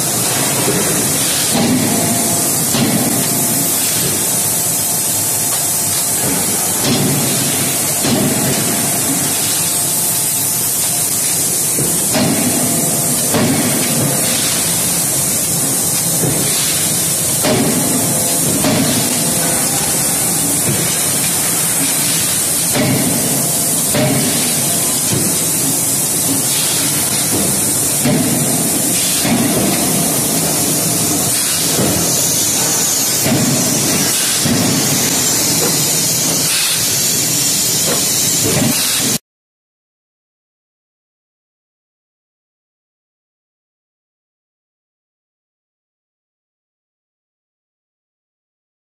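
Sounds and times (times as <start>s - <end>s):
machinery hissing: 0.0s - 39.2s.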